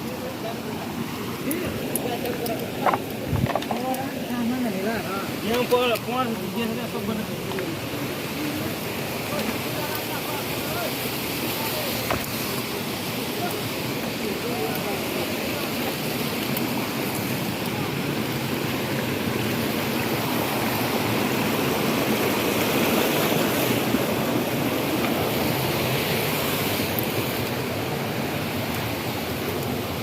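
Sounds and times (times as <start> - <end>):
flowing river water: 0.0 - 30.0.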